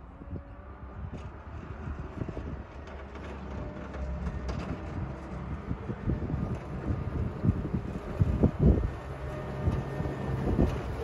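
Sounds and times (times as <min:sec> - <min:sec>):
wheel loader diesel engine rumble: 0:00.0 - 0:11.0
wind buffeting microphone: 0:00.0 - 0:11.0.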